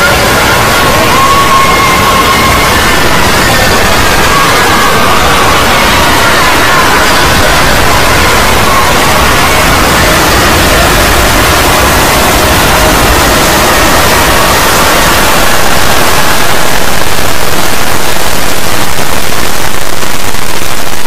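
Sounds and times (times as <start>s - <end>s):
faint tones: 0.0s - 19.8s
distorted digital noise: 0.0s - 21.0s.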